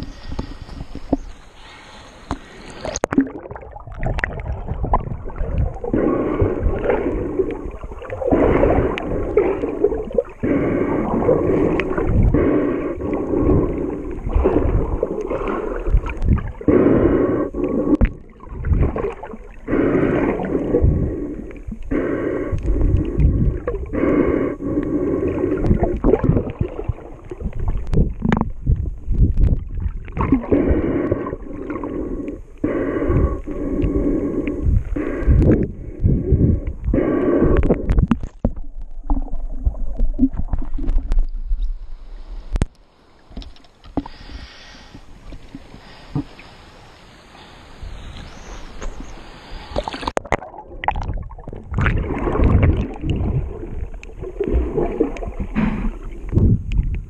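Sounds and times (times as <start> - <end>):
underwater sloshing and gurgling: 0.0 - 57.0.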